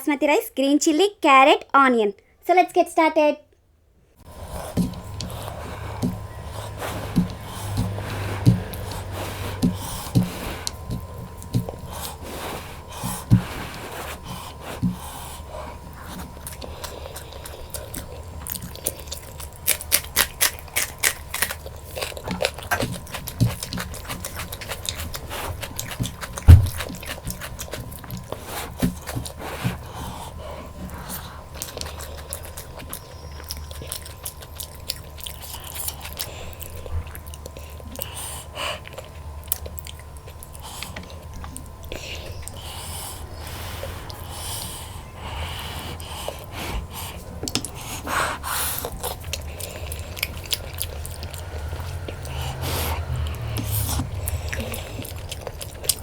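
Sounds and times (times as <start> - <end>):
person chewing food: 4.2 - 56.0.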